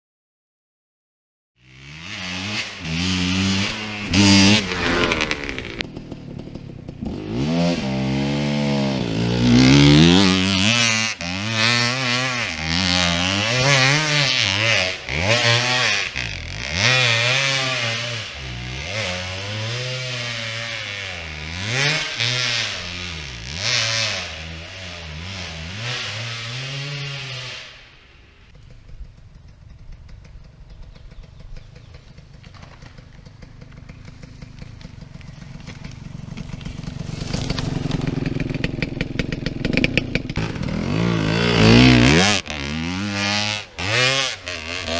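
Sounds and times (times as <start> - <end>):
motorcycle engine revving: 1.6 - 44.9.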